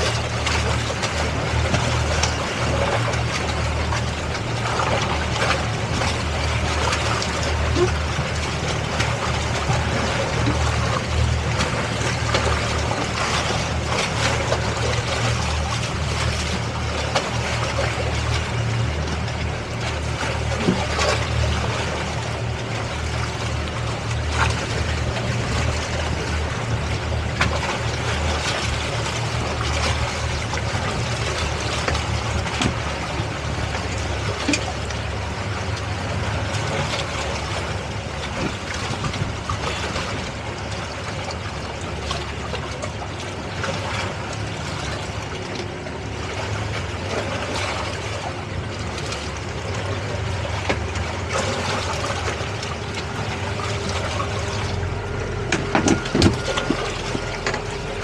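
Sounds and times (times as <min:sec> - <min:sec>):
boat engines running: 0:00.0 - 0:58.0
water splashing against hulls: 0:00.0 - 0:58.0.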